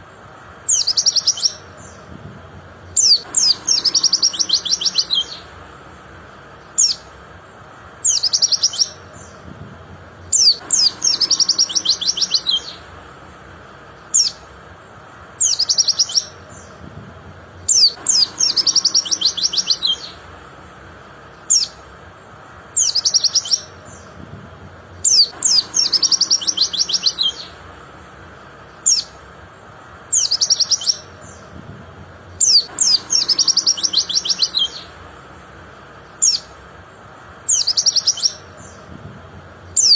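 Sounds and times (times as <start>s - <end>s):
bird trilling song: 0.6s - 13.0s, 13.8s - 14.6s, 15.3s - 17.0s, 17.6s - 20.4s, 21.2s - 21.9s, 22.7s - 24.3s, 24.9s - 27.7s, 28.4s - 29.3s, 30.0s - 35.1s, 35.9s - 36.7s, 37.4s - 39.9s.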